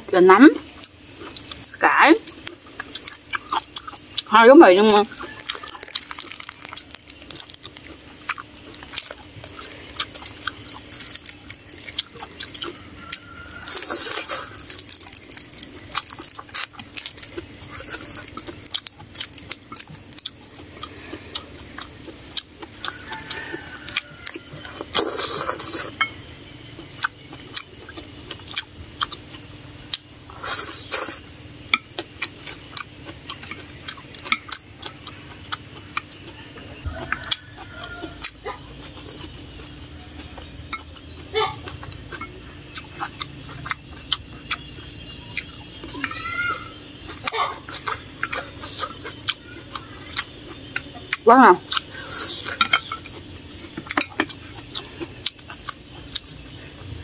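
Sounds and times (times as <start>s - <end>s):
person chewing noodles: 0.5s - 57.0s.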